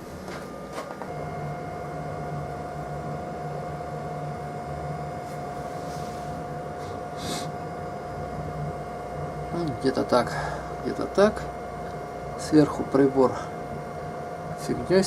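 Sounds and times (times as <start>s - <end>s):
electrical hum: 0.0s - 15.0s
high electrical whine: 0.0s - 15.0s.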